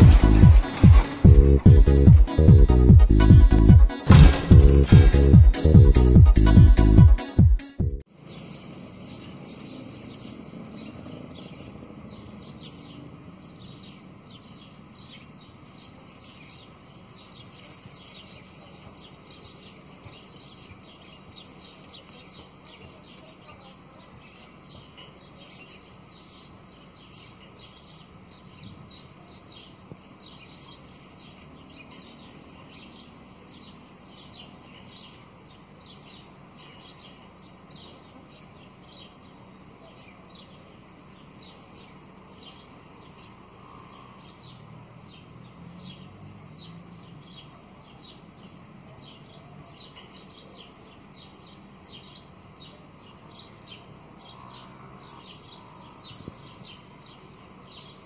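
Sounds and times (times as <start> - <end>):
sparrows chirping: 0.0 - 58.0
low background noise: 8.0 - 58.0.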